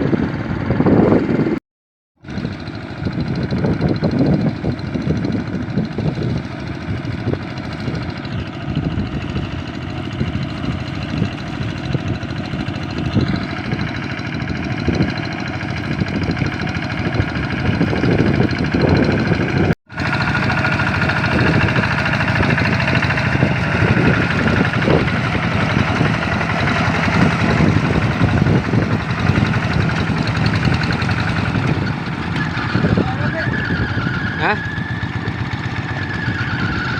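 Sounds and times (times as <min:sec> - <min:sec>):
diesel engine running: 0:00.0 - 0:01.6, 0:02.2 - 0:36.9.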